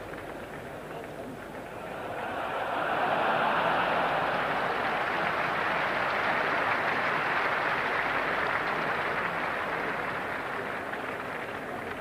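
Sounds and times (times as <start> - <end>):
crowd cheering and applauding: 1.8 - 12.0.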